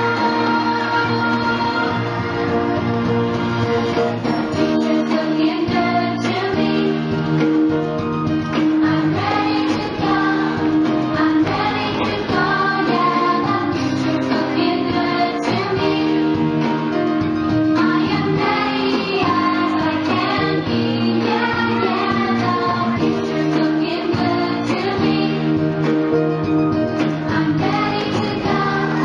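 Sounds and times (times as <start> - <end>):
children's song with singing: 0.0 - 26.2, 26.9 - 29.0.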